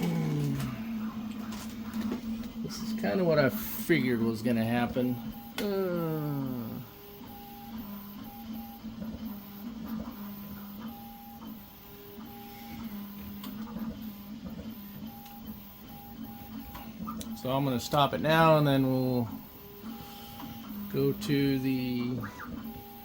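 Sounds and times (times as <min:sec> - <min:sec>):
printer stepper motors humming: 0:00.0 - 0:23.0.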